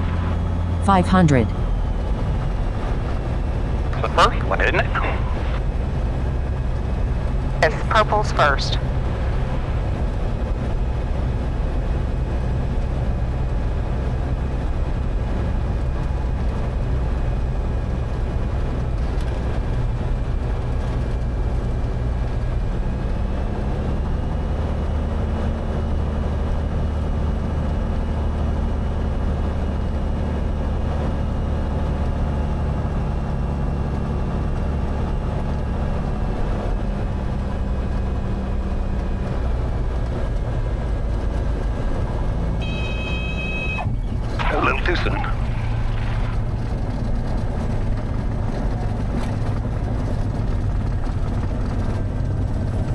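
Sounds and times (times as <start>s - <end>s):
aircraft engine and propeller droning: 0.0s - 52.9s.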